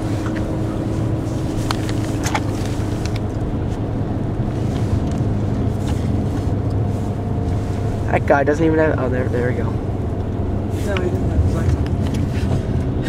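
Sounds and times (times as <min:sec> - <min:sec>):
car engine and tyres drone: 0:00.0 - 0:13.0.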